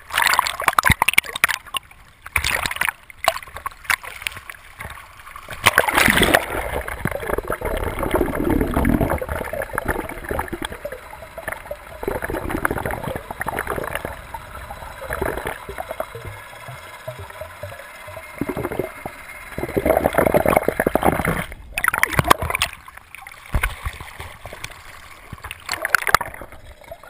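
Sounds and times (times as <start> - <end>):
underwater rushing and gurgling: 0.0 - 27.0
water splashing over camera: 0.0 - 27.0.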